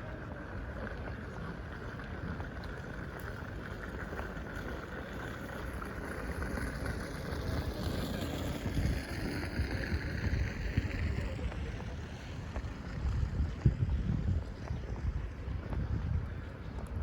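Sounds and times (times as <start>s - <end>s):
distant traffic: 0.0s - 17.0s
wind buffeting microphone: 0.0s - 17.0s.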